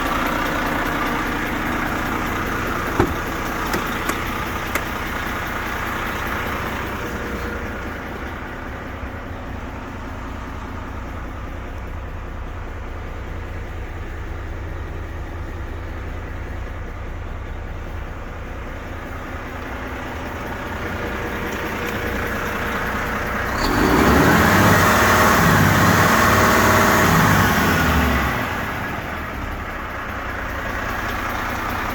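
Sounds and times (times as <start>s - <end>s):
diesel truck engine idling and revving: 0.0s - 31.9s.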